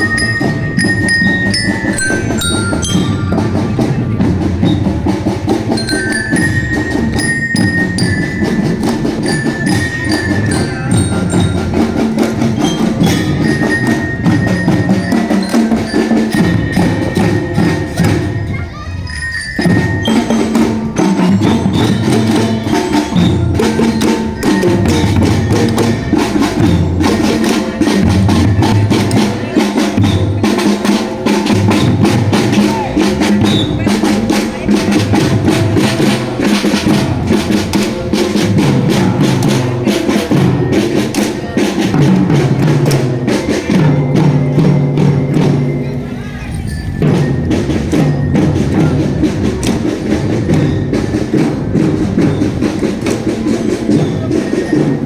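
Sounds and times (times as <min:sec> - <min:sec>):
rapid drum strokes: 0:00.0 - 0:55.0.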